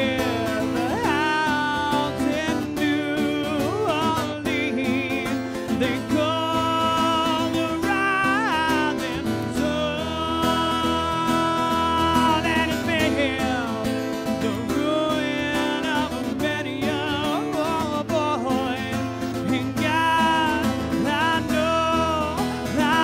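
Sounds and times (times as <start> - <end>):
electric guitar lead: 0.0 - 23.0
sustained guitar chords: 0.0 - 23.0.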